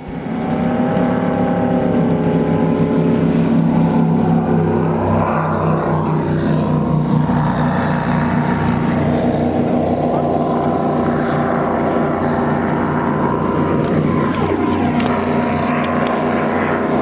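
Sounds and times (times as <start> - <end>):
powerboat engines running: 0.0 - 17.0.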